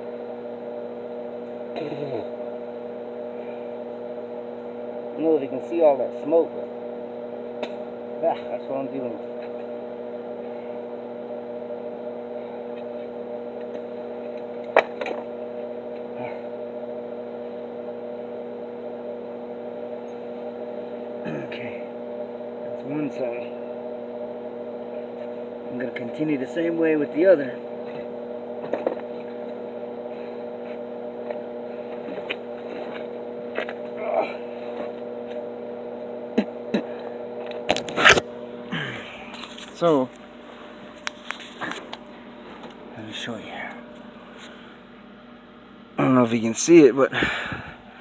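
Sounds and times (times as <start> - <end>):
welding machine electrical hum: 0.0 - 48.0.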